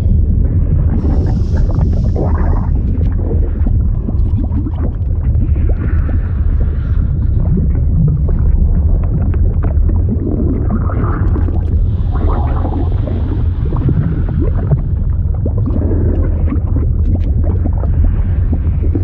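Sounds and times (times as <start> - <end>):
deep liquid rumble: 0.0 - 19.0
swirling liquid sounds: 0.0 - 19.0.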